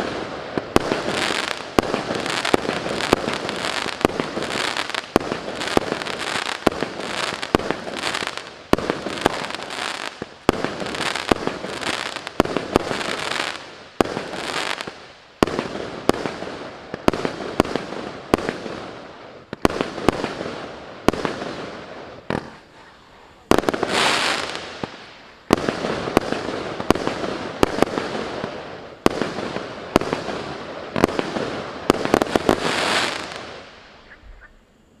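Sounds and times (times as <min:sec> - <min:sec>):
firework shots with hissing tails: 0:00.0 - 0:35.0.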